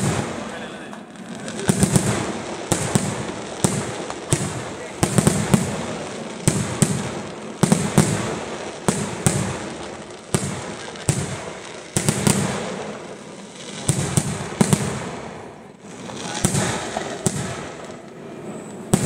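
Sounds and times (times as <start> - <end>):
fireworks banging with echo: 0.0 - 19.0.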